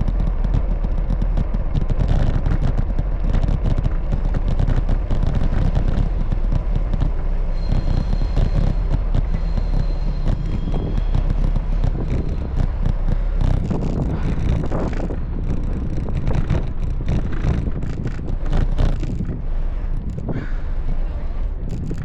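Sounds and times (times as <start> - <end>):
bicycle clicks and rattles: 0.0 - 7.3, 7.9 - 20.6, 21.7 - 22.0
wind buffeting microphone: 0.0 - 22.0.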